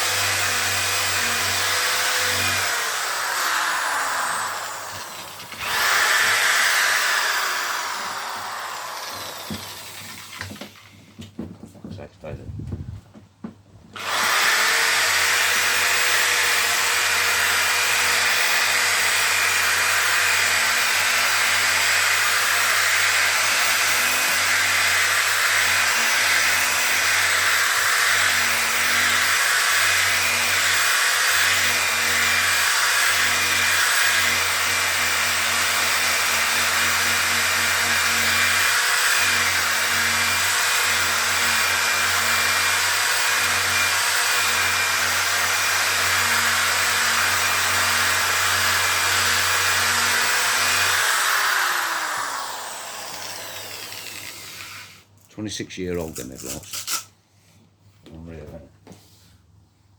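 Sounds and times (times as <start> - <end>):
power tool sanding plastic: 0.0 - 12.7, 14.0 - 57.1.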